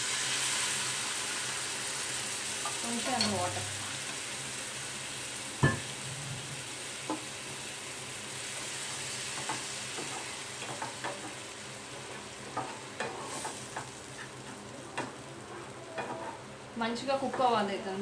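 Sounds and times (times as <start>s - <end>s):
loud sizzle of water in pan: 0.0s - 18.0s
masala sizzling: 0.0s - 18.0s.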